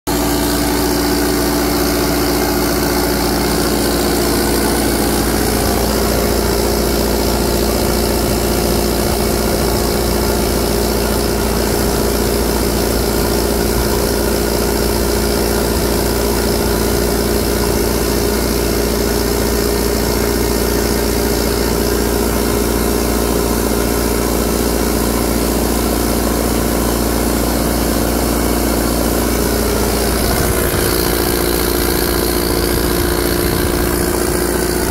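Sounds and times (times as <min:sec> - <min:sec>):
diesel generator running: 0:00.1 - 0:34.9.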